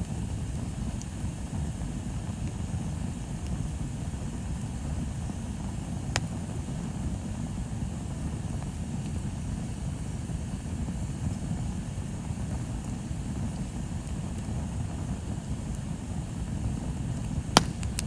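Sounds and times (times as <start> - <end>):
bonfire rumbling: 0.0 - 18.0
burning wood crackle: 0.0 - 18.0.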